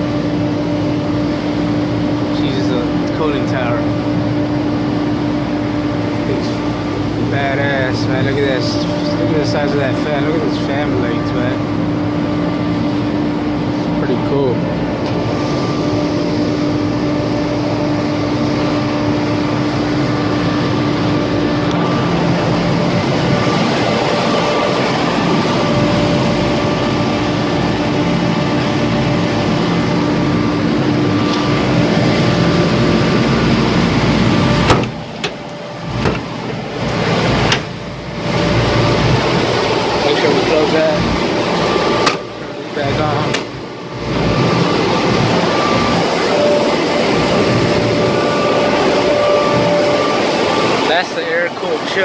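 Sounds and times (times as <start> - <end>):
cooling tower fan drone: 0.0 - 52.0.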